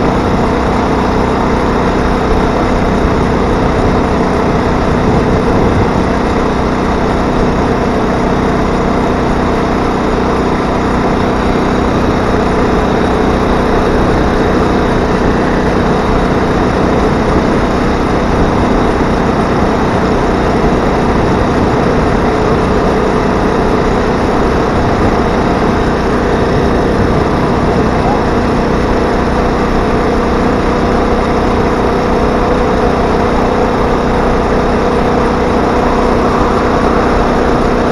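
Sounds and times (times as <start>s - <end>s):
small engine running steadily: 0.0s - 37.9s.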